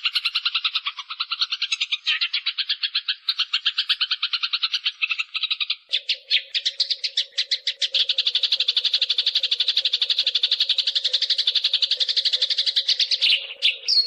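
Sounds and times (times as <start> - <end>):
sparrows chirping harshly: 0.0 - 14.0.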